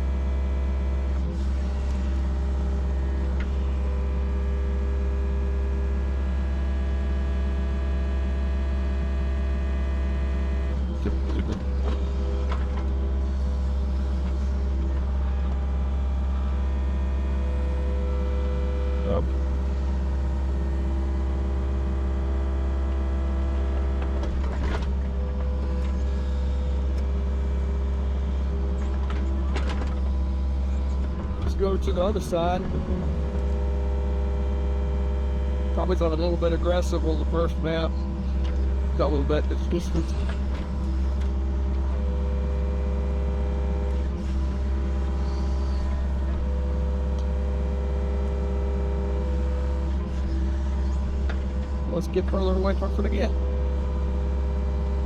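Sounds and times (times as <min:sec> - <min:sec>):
excavator diesel engine whining: 0:06.6 - 0:55.0.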